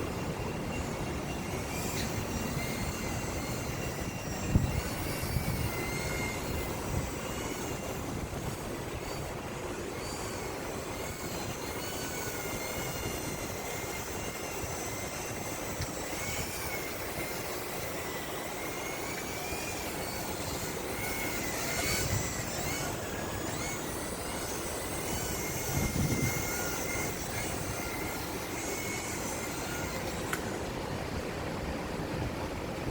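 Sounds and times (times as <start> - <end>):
wind buffeting microphone: 0.0 - 18.2, 18.8 - 32.9
model aircraft motor whining: 0.0 - 32.8
wind noise: 0.0 - 32.9.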